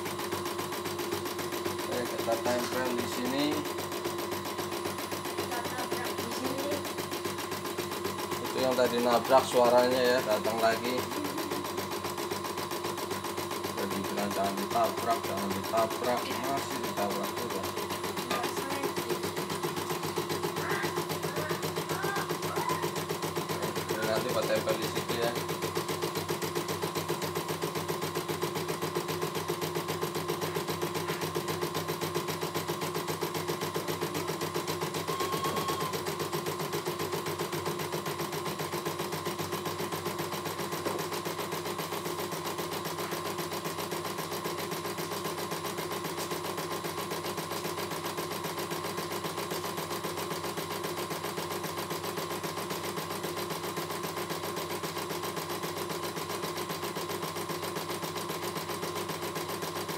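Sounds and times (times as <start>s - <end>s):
embroidery machine stitching: 0.0s - 59.9s.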